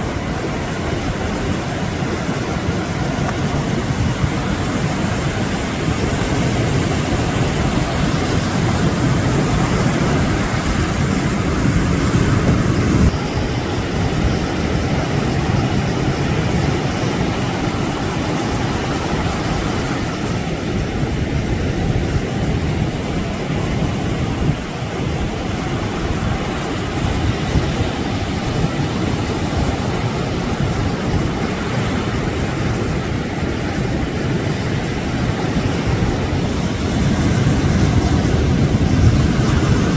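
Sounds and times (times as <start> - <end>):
sea surf rushing: 0.0 - 39.9
wind on microphone: 0.0 - 39.9.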